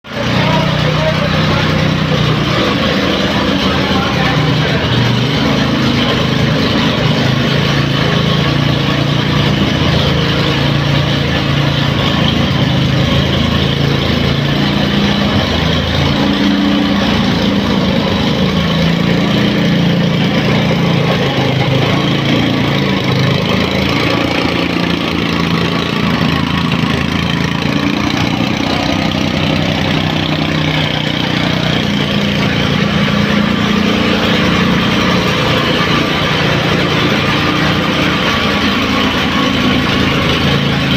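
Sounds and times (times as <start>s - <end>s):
tamping rammer pounding ground: 0.0s - 40.9s.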